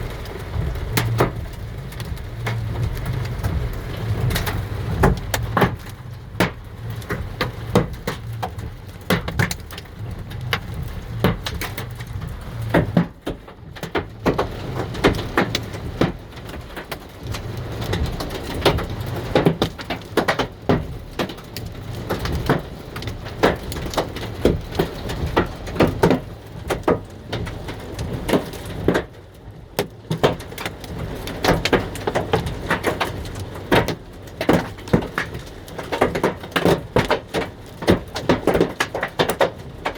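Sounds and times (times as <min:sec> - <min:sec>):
hailstones clattering on hard surfaces: 0:00.0 - 0:39.9.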